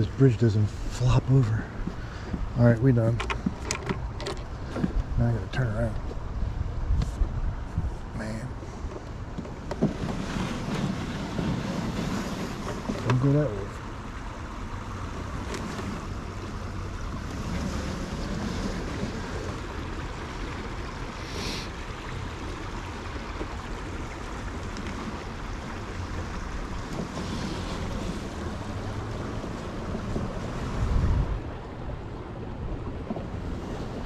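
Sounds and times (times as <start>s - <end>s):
wind buffeting microphone: 0.0s - 14.1s, 14.7s - 34.0s.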